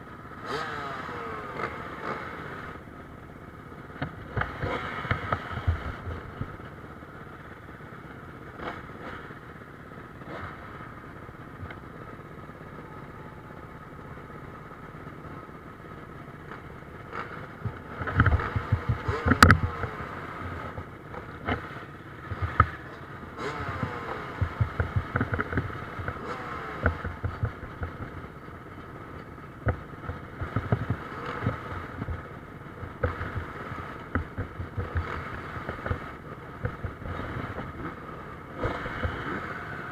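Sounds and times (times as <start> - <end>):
motocross motorcycles revving: 0.0 - 39.9.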